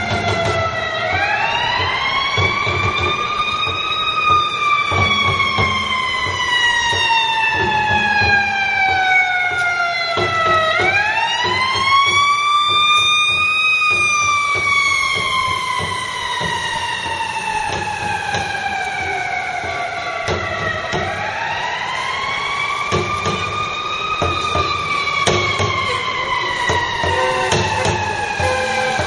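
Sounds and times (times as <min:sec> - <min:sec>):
fire engine siren wailing: 0:00.0 - 0:29.0
street traffic: 0:00.0 - 0:29.0.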